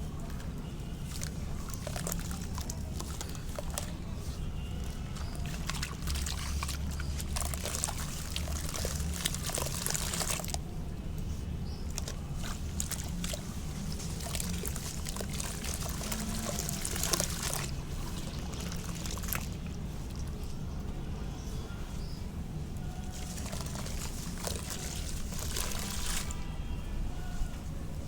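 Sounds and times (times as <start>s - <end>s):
trickling water: 0.0s - 28.0s.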